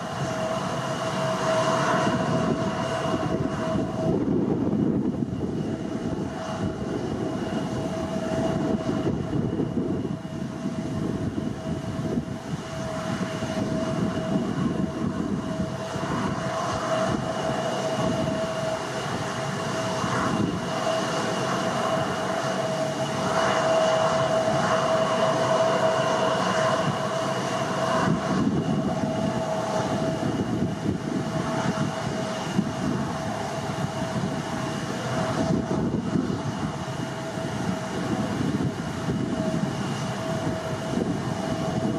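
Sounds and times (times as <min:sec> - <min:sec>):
jet engine roar with whine: 0:00.0 - 0:41.9.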